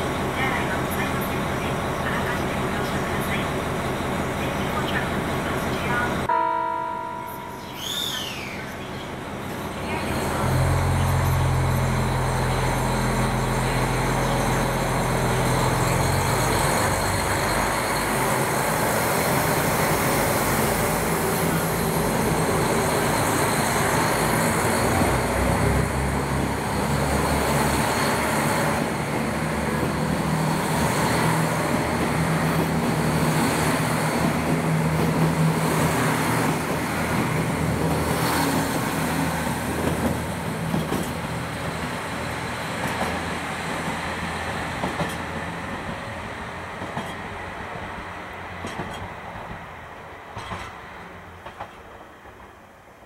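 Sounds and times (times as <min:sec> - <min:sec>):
diesel train engines: 0:00.0 - 0:53.0
train cars running noise: 0:00.0 - 0:53.0.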